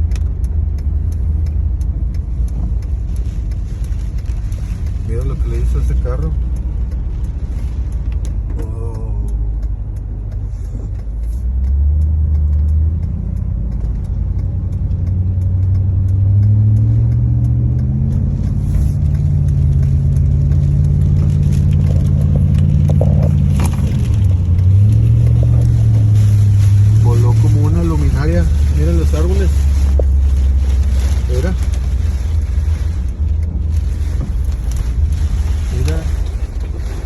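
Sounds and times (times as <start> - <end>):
car engine accelerating: 0.0 - 37.0
road noise inside car: 0.0 - 37.0.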